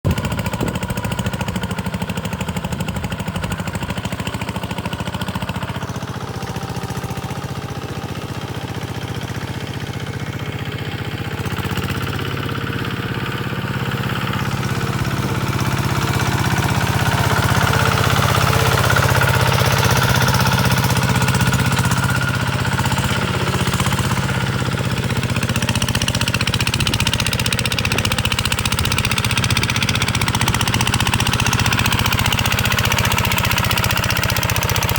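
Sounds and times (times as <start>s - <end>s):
diesel engine knocking: 0.0s - 34.9s.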